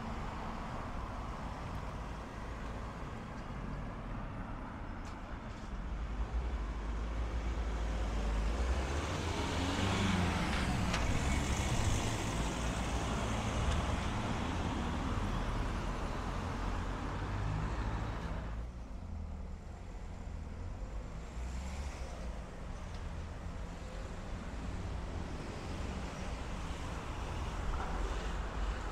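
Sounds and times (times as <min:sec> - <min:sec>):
road traffic passing: 0:00.0 - 0:28.9.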